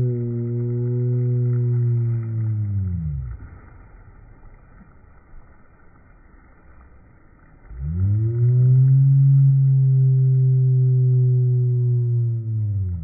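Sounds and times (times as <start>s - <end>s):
low hum sliding in pitch: 0.0s - 13.0s.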